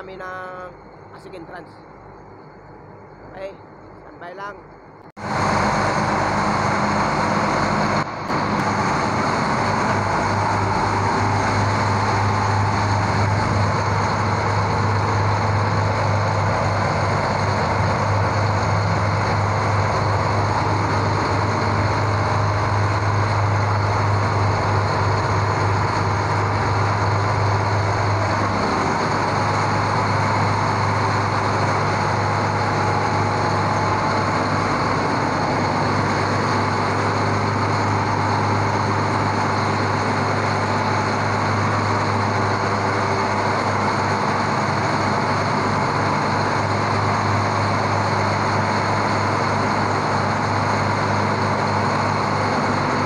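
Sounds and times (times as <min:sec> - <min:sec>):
boat diesel engine droning: 0:00.0 - 0:53.0.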